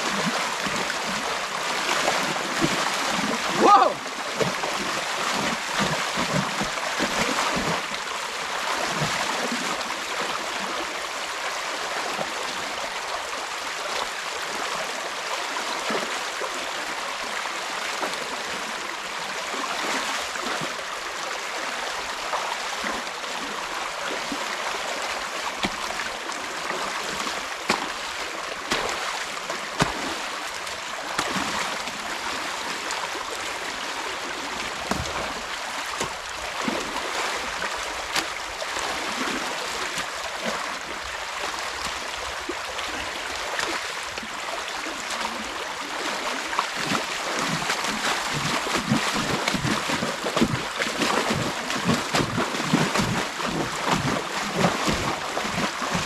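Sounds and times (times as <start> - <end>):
creek water rushing: 0.0 - 56.0.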